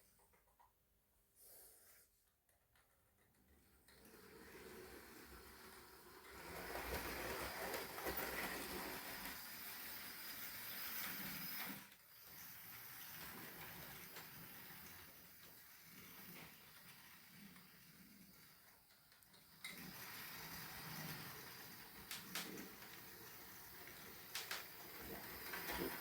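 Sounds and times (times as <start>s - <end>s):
model train motor whirring: 3.9s - 26.0s.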